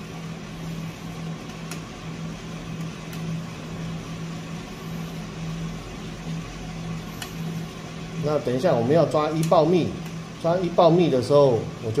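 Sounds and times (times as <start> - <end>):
coffee roaster motor hum: 0.0 - 12.0.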